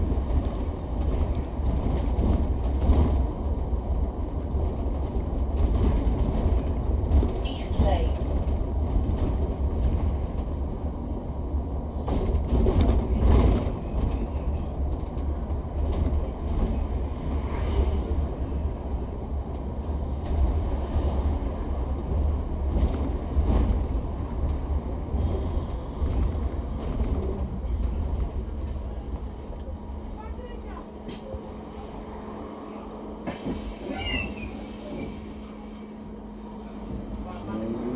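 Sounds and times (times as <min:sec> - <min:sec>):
bus engine and road rumble: 0:00.0 - 0:37.9.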